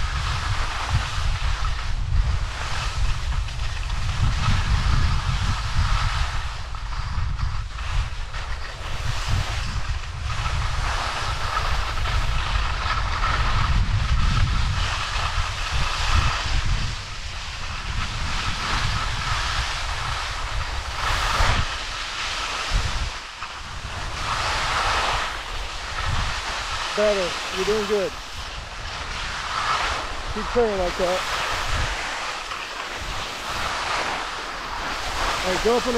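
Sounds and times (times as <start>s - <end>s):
skis sliding on packed snow: 0.0s - 35.9s
wind noise on microphone: 0.0s - 35.9s
ski swish: 2.5s - 35.9s.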